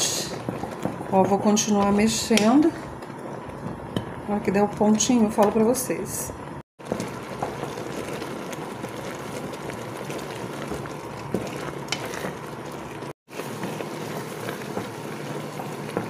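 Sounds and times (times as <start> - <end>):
syrup boiling with bubbling hiss: 0.0 - 16.0.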